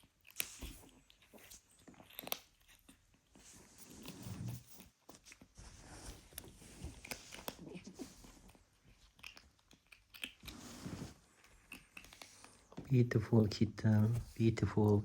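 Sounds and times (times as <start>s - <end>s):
kitten chewing food: 0.0s - 13.0s.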